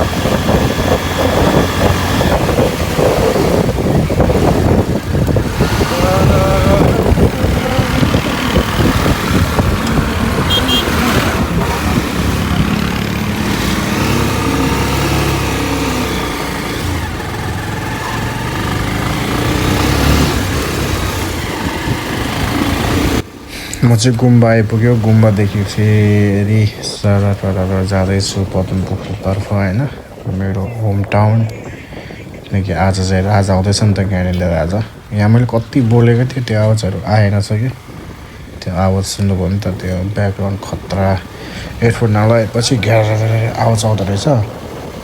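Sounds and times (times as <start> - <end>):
rider speaking: 0.0 - 21.0, 23.6 - 45.0
motorcycle engine and road noise: 0.0 - 45.0
wind noise on microphone: 0.0 - 45.0.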